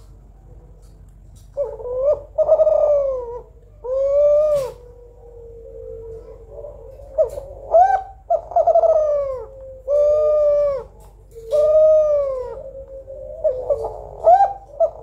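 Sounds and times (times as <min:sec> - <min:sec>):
dove cooing: 0:01.4 - 0:15.0.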